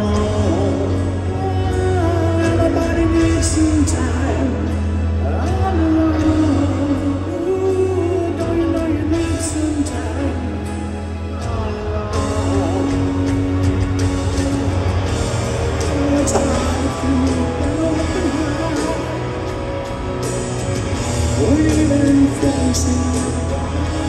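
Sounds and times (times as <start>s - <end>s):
person singing: 0.0s - 13.6s, 15.8s - 19.8s, 21.4s - 24.0s
lead electric guitar: 0.0s - 24.0s
live rock band playing ballad: 0.0s - 24.0s.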